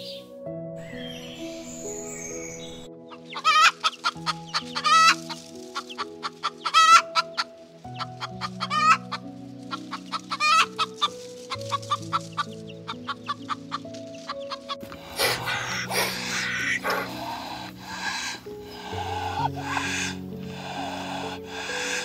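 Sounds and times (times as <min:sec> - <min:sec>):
soft background music: 0:00.0 - 0:22.0
hen clucking: 0:03.1 - 0:22.0.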